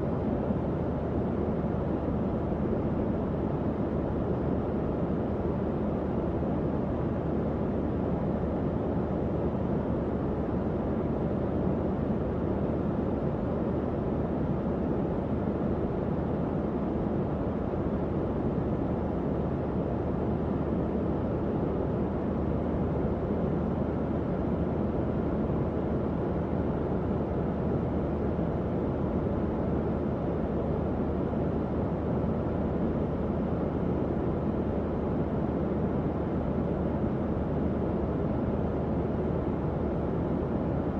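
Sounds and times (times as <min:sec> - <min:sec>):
faint fan hum: 0:00.0 - 0:40.9.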